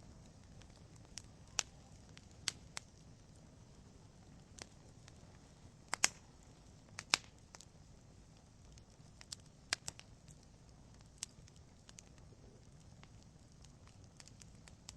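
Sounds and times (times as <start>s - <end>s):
low steady hiss: 0.0s - 14.9s
wood fire crackling: 0.0s - 14.9s.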